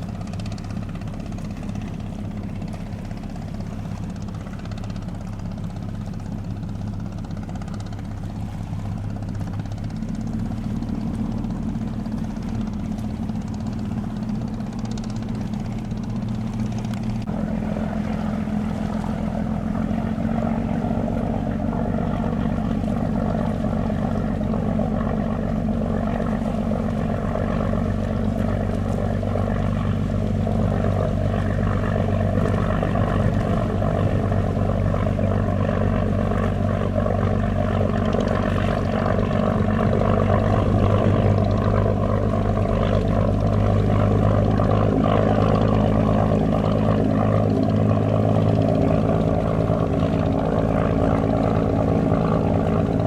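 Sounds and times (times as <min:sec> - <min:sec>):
ship engine hum: 0:00.0 - 0:53.0.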